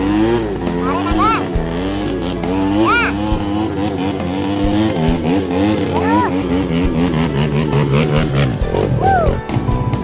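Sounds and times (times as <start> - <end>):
vehicle engine revving: 0.0 - 10.0.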